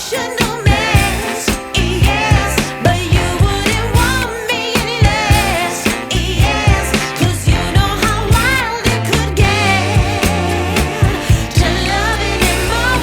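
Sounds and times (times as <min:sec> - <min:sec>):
person singing: 0:00.0 - 0:13.0
pop song with drums and bass: 0:00.0 - 0:13.0.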